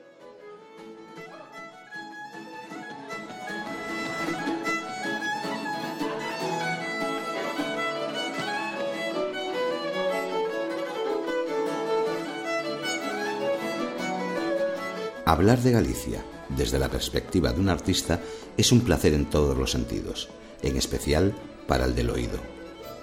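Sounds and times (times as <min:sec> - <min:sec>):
plucked string instrument: 0:00.0 - 0:23.0
violin playing folk tune: 0:00.0 - 0:23.0.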